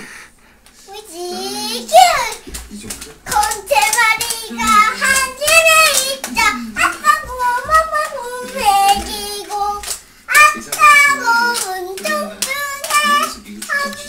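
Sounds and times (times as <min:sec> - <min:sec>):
girl singing: 0:00.9 - 0:02.6, 0:03.2 - 0:14.0.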